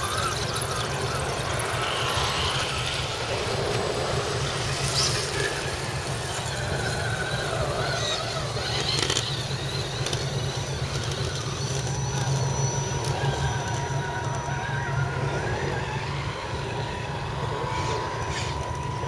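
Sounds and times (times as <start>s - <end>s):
electric motors whining: 0.0s - 19.0s
steady low rumble: 0.0s - 19.0s.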